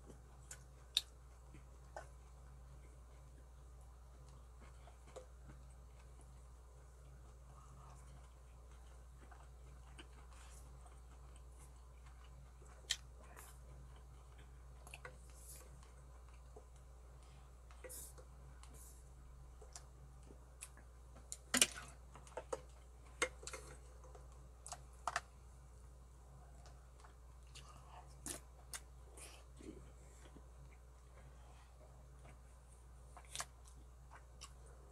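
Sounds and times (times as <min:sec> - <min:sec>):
chewing: 0:00.0 - 0:25.3, 0:26.5 - 0:34.9.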